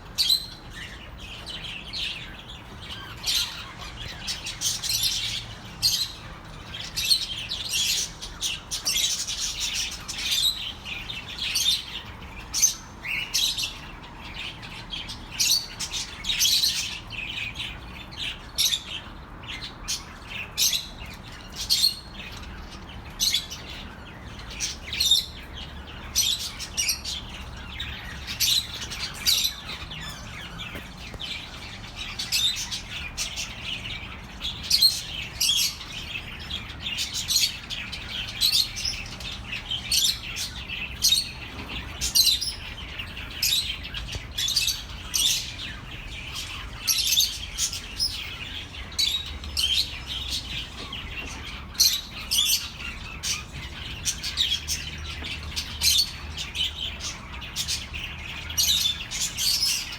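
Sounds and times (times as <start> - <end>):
budgerigars chirping: 0.1 - 59.9.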